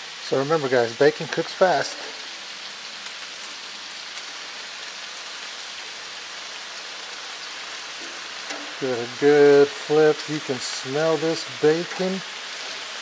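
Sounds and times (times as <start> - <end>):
bacon sizzling on griddle: 0.0 - 13.0.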